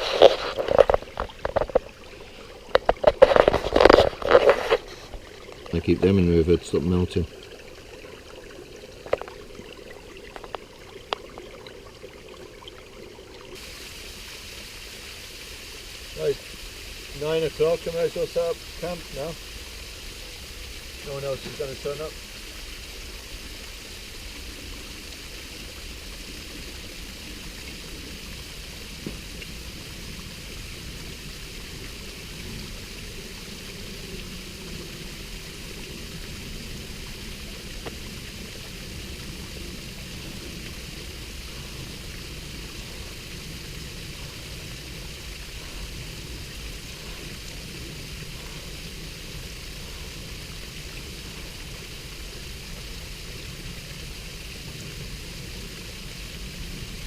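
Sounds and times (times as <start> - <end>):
rushing mountain stream: 0.0 - 57.0.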